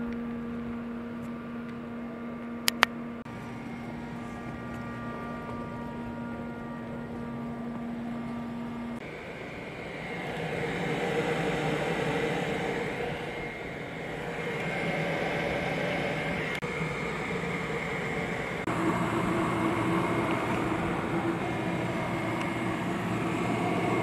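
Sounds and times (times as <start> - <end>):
fan and airflow rushing: 0.0 - 24.0
mechanical hum: 0.0 - 24.0.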